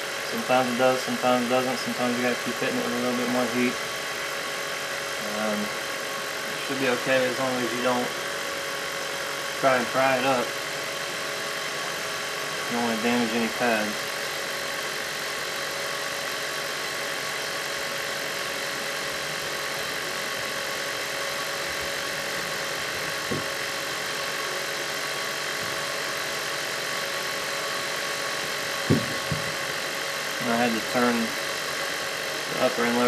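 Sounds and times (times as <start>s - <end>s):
fans and hot-air blower whining: 0.0s - 33.0s.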